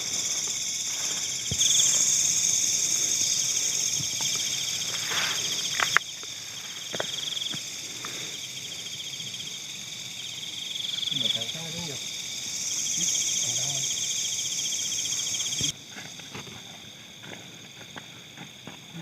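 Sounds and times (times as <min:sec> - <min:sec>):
high insect buzz: 0:00.0 - 0:16.4
insects trilling: 0:00.0 - 0:19.0.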